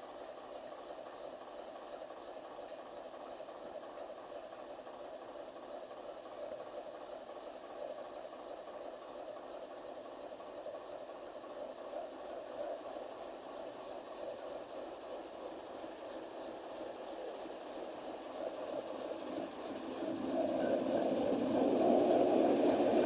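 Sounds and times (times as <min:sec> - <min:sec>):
distant locomotive engine idling: 0:00.0 - 0:23.0.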